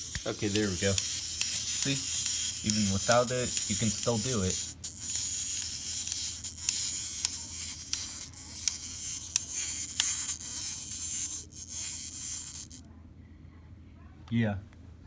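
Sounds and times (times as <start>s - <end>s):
toy clicks: 0.0s - 12.8s
clockwork toy motor buzzing: 0.0s - 12.9s.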